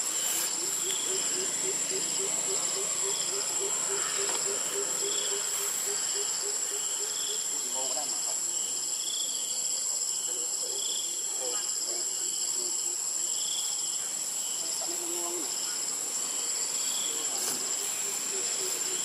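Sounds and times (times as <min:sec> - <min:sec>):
insects droning and trilling: 0:00.0 - 0:19.0.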